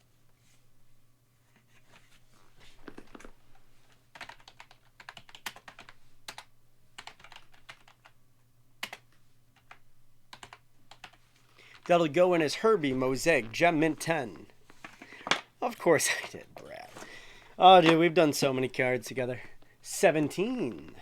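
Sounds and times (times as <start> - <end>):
faint steady low hum: 0.0 - 21.0.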